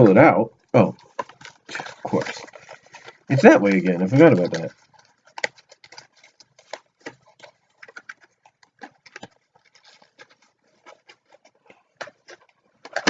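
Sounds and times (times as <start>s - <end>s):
packaging clicks and rustles: 0.8s - 13.0s.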